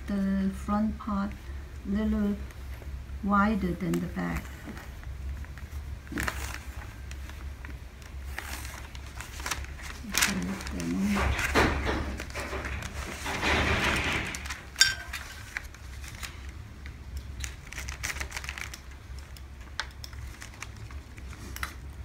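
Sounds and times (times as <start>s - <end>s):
paper and fabric rustling: 2.2s - 16.6s, 17.3s - 22.0s.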